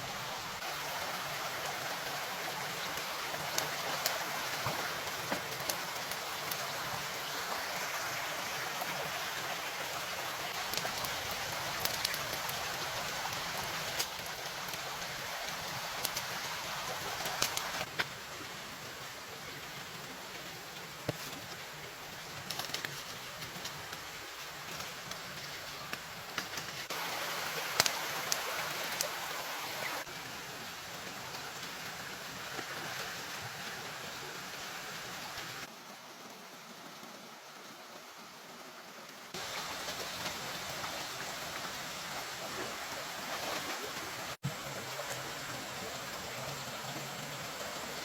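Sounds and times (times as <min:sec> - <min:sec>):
rain hissing: 0:00.0 - 0:48.0.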